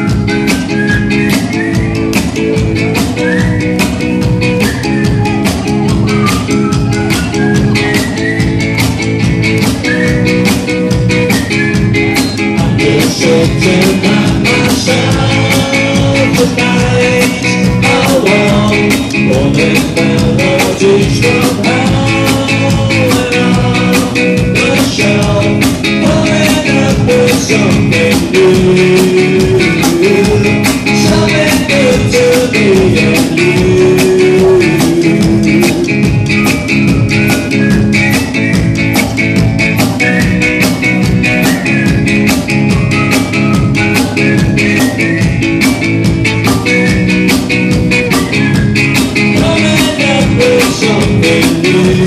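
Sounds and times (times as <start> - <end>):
drums fast steady beat: 0.0 - 52.0
rock band playing: 0.0 - 52.0.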